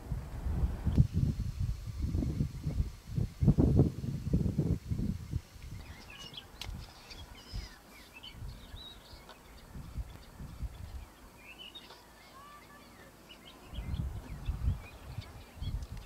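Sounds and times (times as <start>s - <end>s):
small birds chirping: 1.9s - 16.0s.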